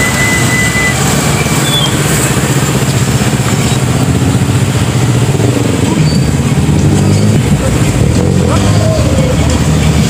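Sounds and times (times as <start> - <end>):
cars driving slowly past: 0.0 - 10.0.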